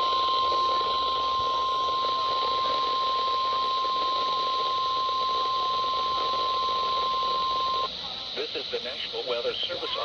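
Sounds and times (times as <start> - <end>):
radio hiss: 0.0 - 10.0
steady warning alarm tone: 0.0 - 10.0.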